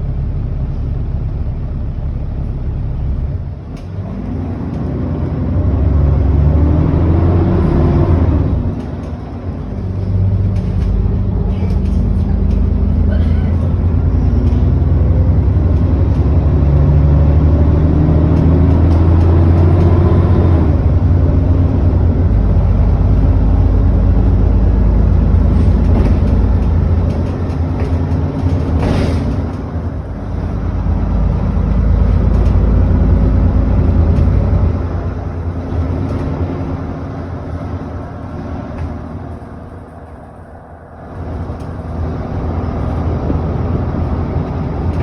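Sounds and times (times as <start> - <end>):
bus diesel engine: 0.0 - 45.0.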